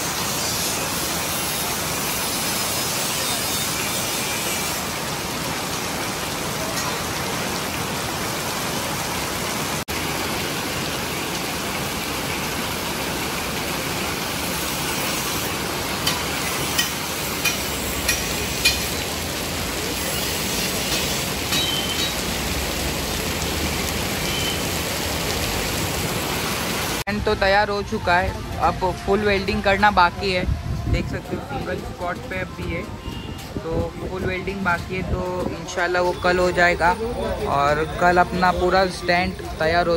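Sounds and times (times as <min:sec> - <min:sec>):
rain-like rushing noise: 0:00.0 - 0:39.9.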